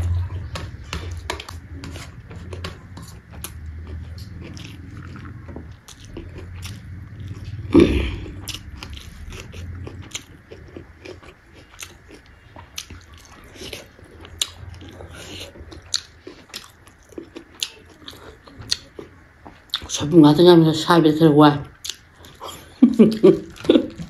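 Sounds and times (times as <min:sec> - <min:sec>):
person chewing and crunching food: 0:00.0 - 0:20.2, 0:21.6 - 0:24.0.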